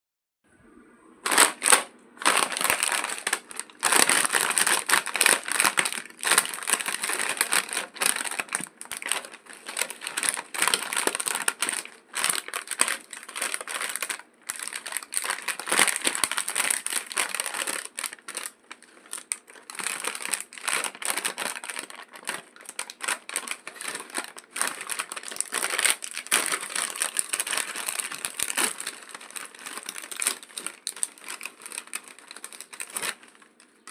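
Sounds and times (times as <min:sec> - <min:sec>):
snack packet crinkling: 0:01.2 - 0:33.9.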